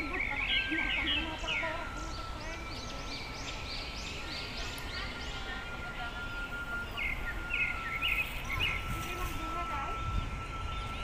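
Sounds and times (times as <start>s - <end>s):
birds calling: 0.0s - 11.0s
thin steady high tone: 0.0s - 11.0s.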